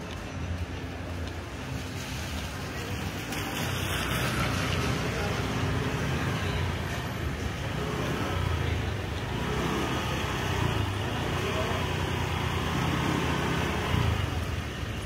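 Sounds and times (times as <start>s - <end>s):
road noise: 0.0s - 15.0s
vehicles passing: 0.0s - 15.0s.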